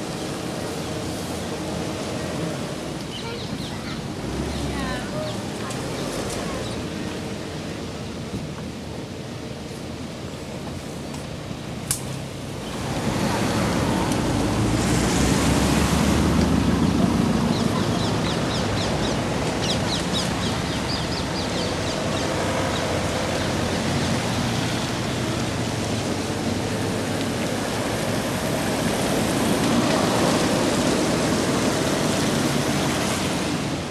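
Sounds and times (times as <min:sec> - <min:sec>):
rain and wind through trees: 0:00.0 - 0:33.9.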